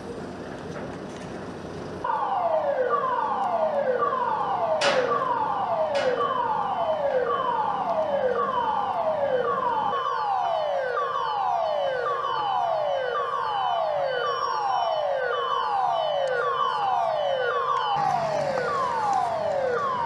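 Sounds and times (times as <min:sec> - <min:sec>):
siren sweeping down in pitch: 0:02.1 - 0:20.0.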